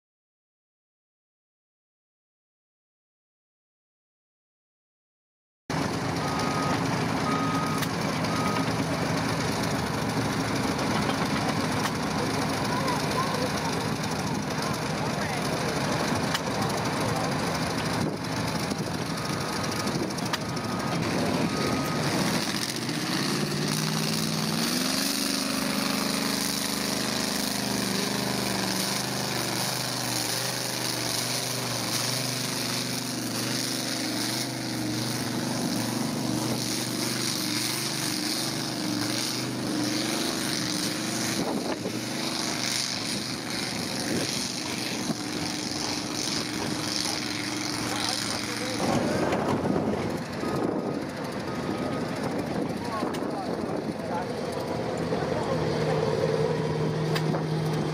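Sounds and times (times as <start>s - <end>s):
tractor engine working hard: 5.7s - 57.9s.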